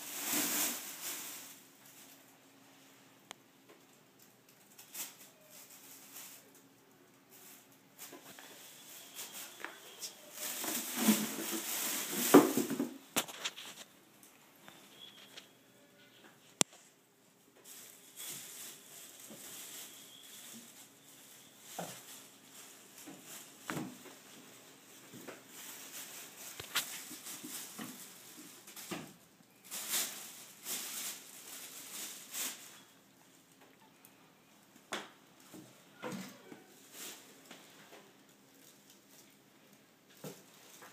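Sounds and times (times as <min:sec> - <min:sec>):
plastic bag rustling: 0:00.0 - 0:02.6, 0:04.0 - 0:14.0, 0:14.6 - 0:15.5, 0:16.4 - 0:33.8, 0:35.4 - 0:40.9.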